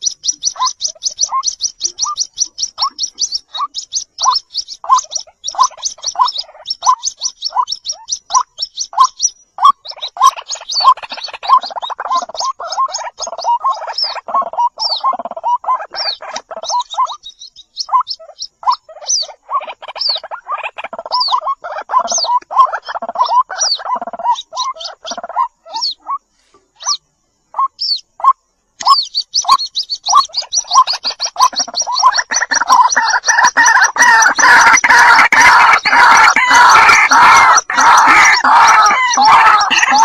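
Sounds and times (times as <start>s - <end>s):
bird chicks calling: 0.0s - 40.0s.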